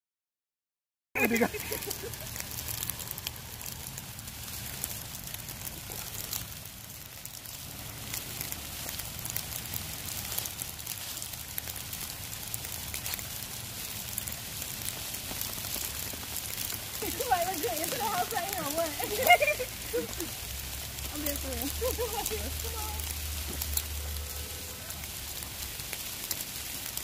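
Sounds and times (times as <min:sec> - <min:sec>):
rain pattering: 0:01.2 - 0:27.0
low steady rumble: 0:01.3 - 0:27.0.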